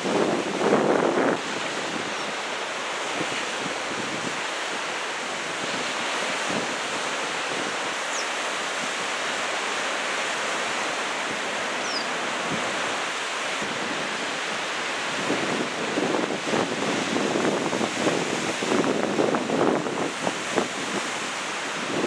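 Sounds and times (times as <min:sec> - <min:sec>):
ocean waves breaking: 0:00.0 - 0:22.0
wind on microphone: 0:00.0 - 0:22.0.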